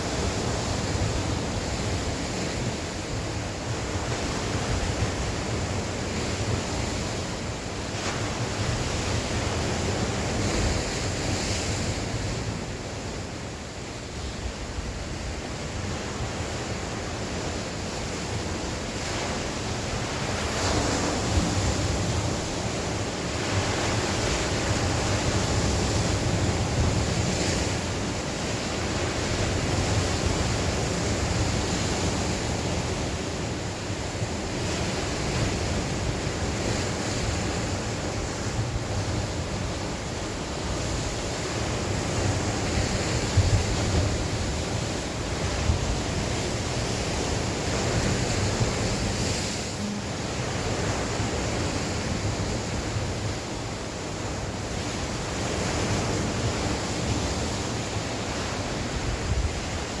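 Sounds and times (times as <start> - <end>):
sea waves washing on shore: 0.0 - 60.0.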